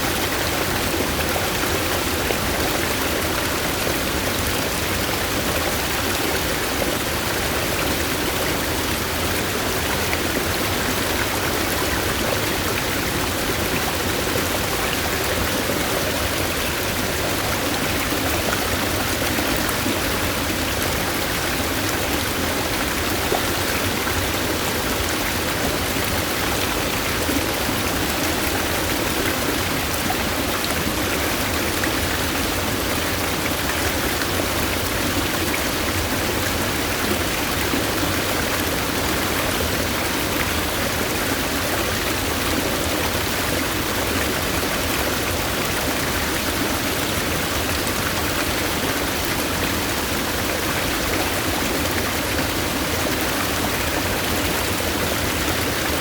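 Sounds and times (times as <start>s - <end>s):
flowing stream rushing: 0.0s - 56.0s.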